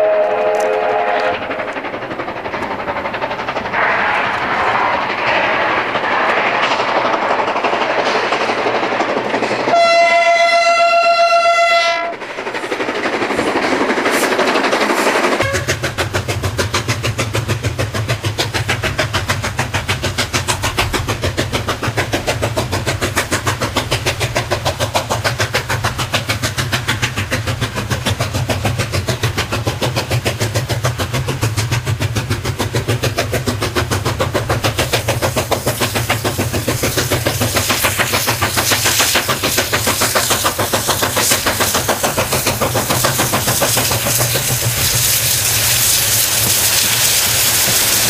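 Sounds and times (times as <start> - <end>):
steam locomotive exhaust chuffs: 0.0 - 48.0.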